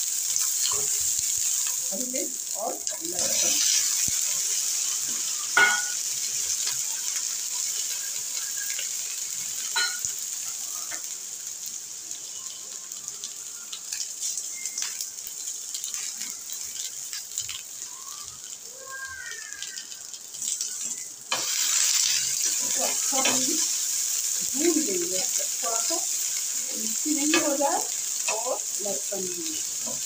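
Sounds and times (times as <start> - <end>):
chillies sizzling in hot oil: 0.0 - 30.0.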